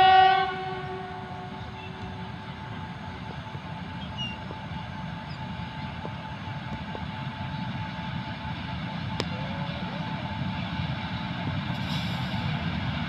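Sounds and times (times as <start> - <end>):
freight locomotive rumbling: 0.0 - 13.0.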